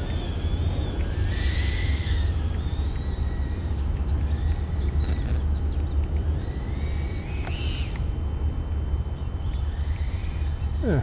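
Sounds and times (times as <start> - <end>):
quadcopter motors whining: 0.0 - 11.0
wind rumble on microphone: 0.0 - 11.0.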